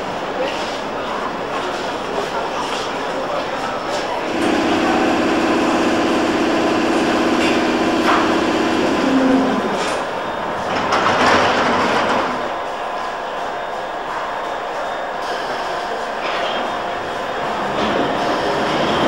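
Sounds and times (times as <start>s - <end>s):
train humming at platform: 0.0s - 19.0s
train doors closing: 0.2s - 13.3s, 14.2s - 19.0s.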